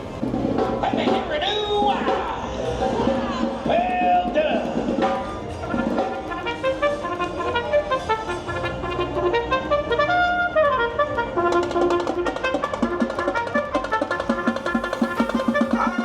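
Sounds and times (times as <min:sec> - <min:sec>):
steady percussive beat: 0:00.0 - 0:16.0
upbeat brass instrumental music: 0:00.0 - 0:16.0.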